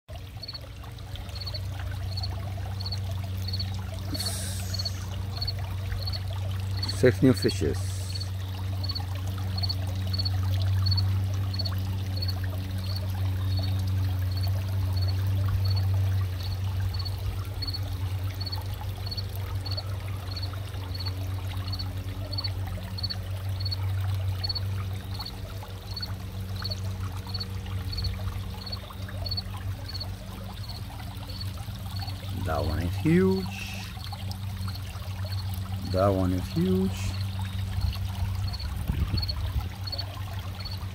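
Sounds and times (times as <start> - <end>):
steady low hum: 0.1 - 40.9
water trickling into pond: 0.1 - 40.9.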